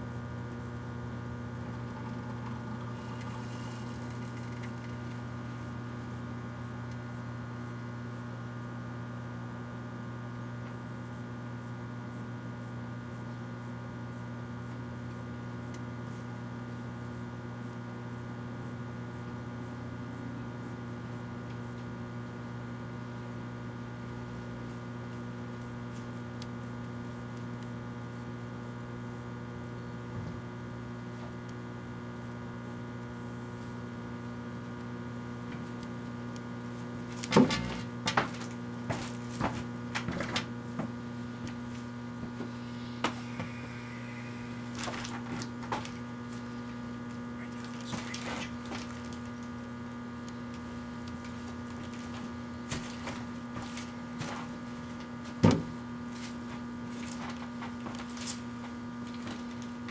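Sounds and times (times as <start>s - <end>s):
microwave oven humming: 0.0s - 59.9s.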